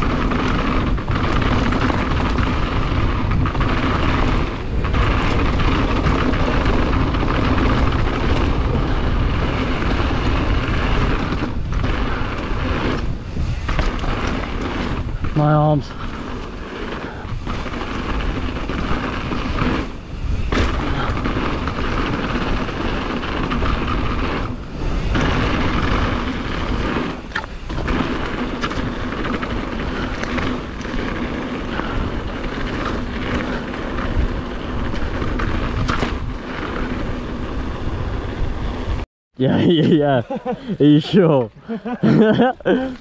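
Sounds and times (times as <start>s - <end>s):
bike tyres crunching on gravel: 0.0s - 39.0s
wind rumble on microphone: 0.0s - 39.7s
bike rattling: 0.0s - 43.0s.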